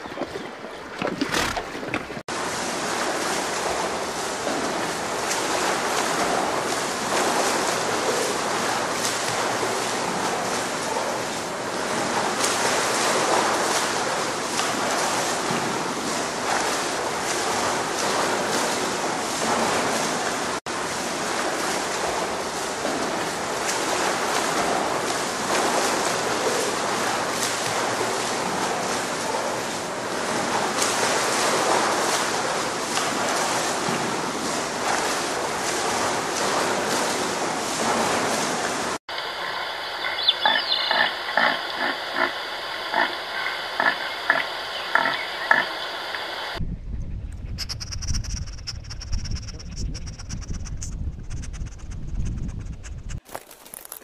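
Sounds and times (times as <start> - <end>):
water rushing: 0.0 - 46.6.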